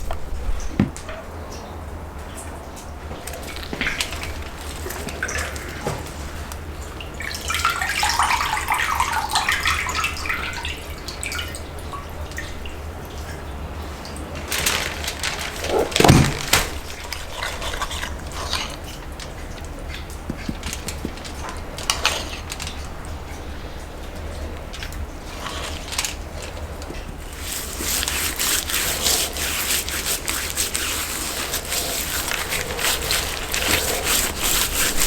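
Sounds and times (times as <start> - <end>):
water splashing and trickling: 3.4 - 35.0.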